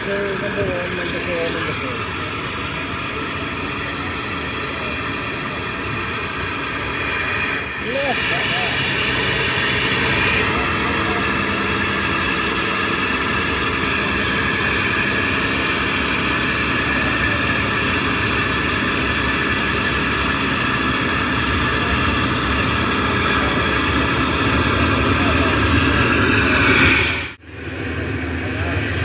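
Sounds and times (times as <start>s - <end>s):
aircraft piston engines idling: 0.0s - 29.0s.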